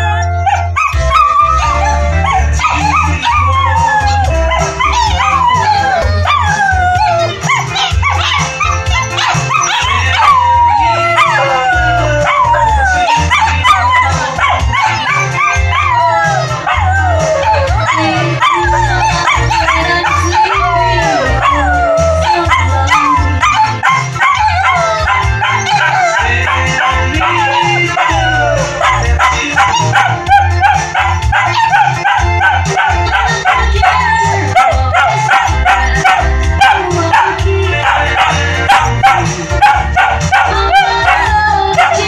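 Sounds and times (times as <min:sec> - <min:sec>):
background music: 0:00.0 - 0:42.0
dog howling and yipping: 0:00.0 - 0:42.0.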